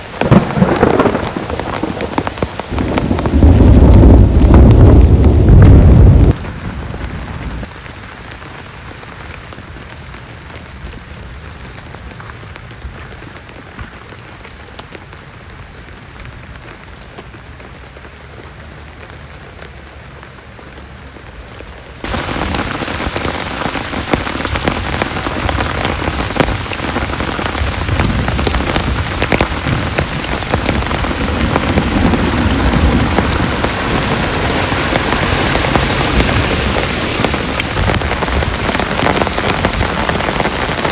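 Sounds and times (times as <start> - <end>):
rain falling: 0.0 - 40.9
raindrops pattering on a surface: 0.0 - 40.9.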